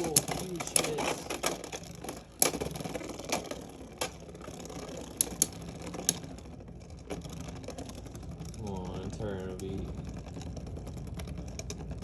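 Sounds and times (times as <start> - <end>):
spinning tops whirring: 0.0 - 12.0.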